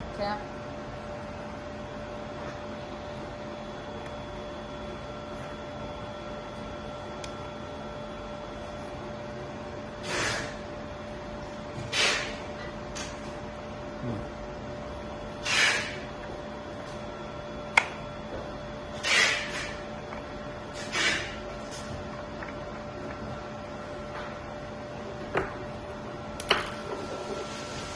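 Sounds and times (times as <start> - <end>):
electrical hum: 0.0 - 27.9.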